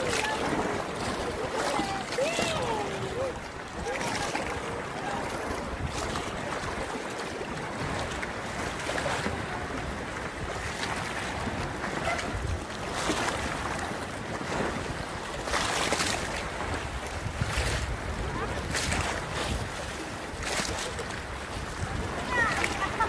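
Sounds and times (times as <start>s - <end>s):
sea water lapping: 0.0s - 23.0s
wind buffeting microphone: 0.0s - 23.0s.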